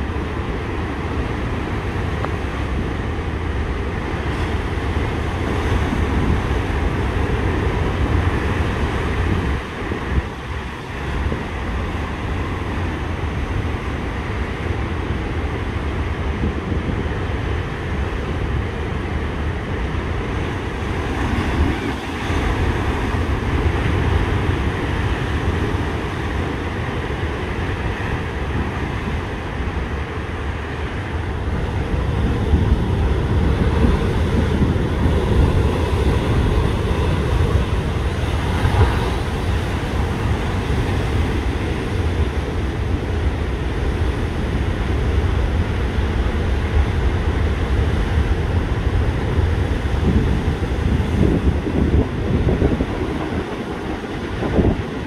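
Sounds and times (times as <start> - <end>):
rough sea surf: 0.0 - 55.0
wind buffeting microphone: 0.0 - 55.0.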